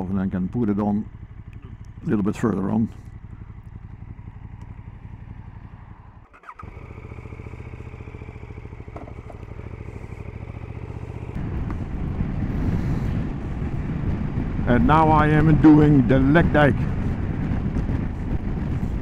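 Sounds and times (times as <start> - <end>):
motorcycle engine throbbing: 0.0 - 19.0.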